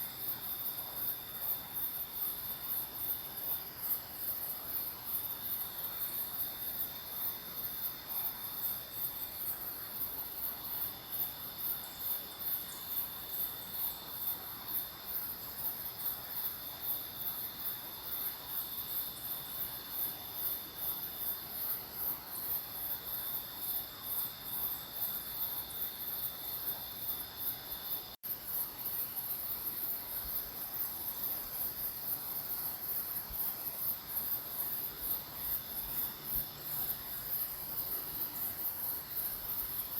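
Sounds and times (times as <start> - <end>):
crickets chirring: 0.0 - 39.9
steady high-pitched insect whines: 0.0 - 39.9.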